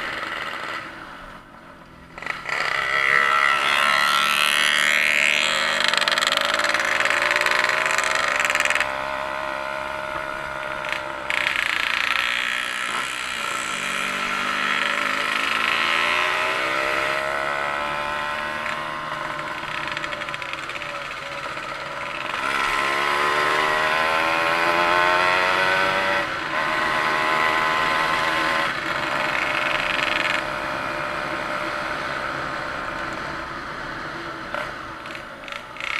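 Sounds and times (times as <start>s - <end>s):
engine revving: 2.1s - 35.9s.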